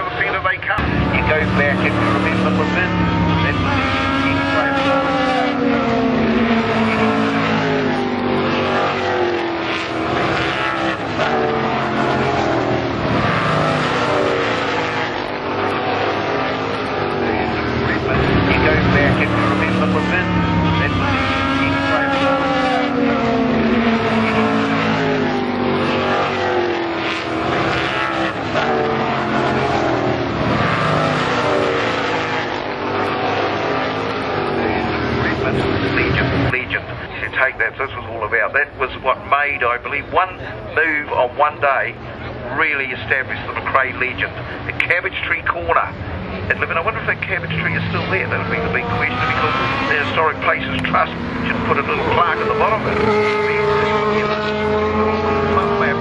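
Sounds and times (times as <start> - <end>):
racing cars passing at full throttle: 0.0 - 56.0.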